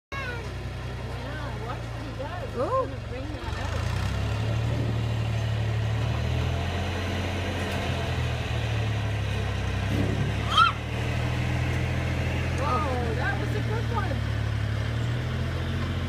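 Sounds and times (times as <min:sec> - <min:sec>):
low motor hum: 0:00.2 - 0:16.0.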